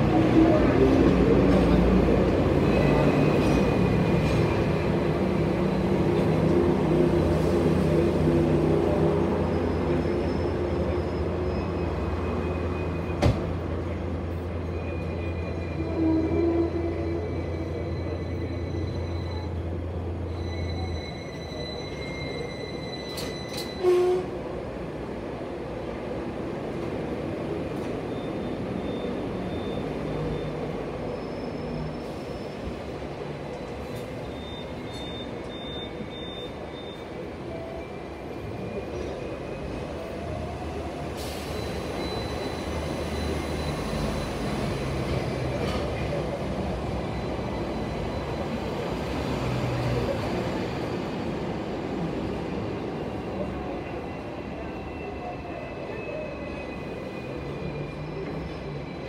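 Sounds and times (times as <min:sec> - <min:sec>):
tram motors and wheels rumbling: 0:00.0 - 0:59.0.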